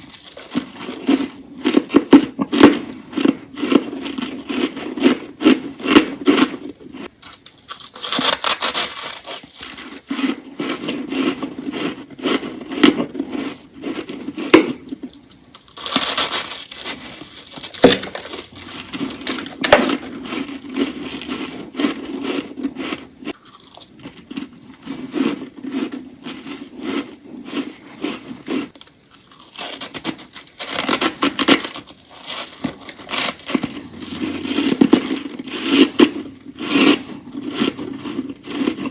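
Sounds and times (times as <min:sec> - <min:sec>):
frost crunching being chewed: 0:00.0 - 0:38.9.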